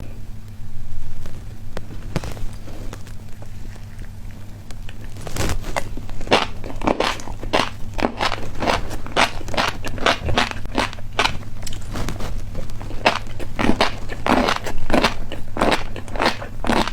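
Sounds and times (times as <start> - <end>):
person chewing crunchy snack: 1.2 - 16.9.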